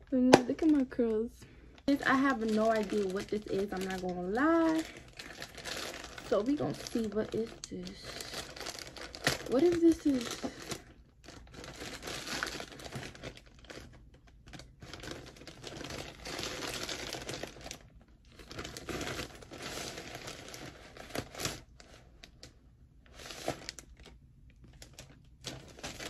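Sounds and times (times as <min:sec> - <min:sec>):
package wrapping tearing and crinkling: 0:02.1 - 0:22.5, 0:23.1 - 0:26.0.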